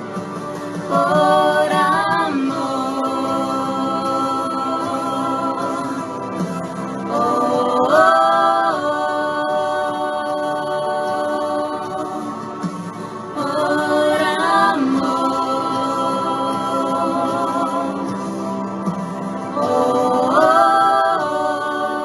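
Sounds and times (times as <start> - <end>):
worship song singing: 0.0 - 22.0.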